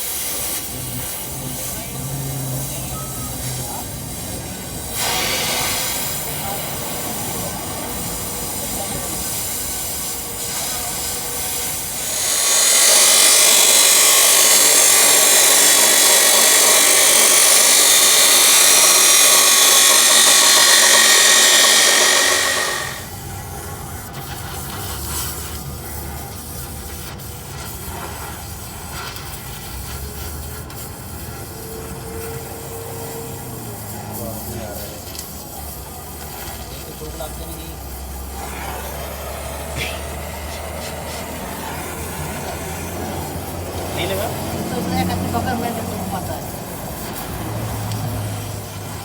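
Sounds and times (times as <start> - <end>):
power grinder grinding steel: 0.0 - 23.3, 30.6 - 49.0
low workshop rumble: 0.0 - 49.0.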